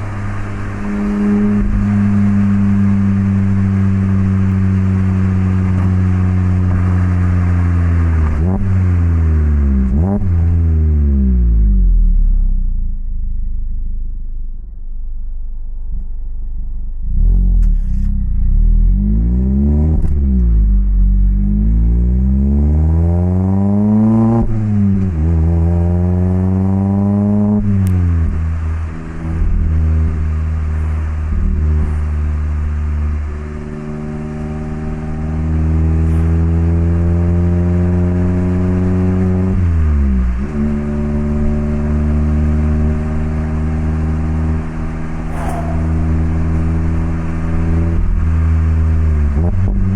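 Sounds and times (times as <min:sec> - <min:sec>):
car engine accelerating through gears: 0:00.0 - 0:49.9.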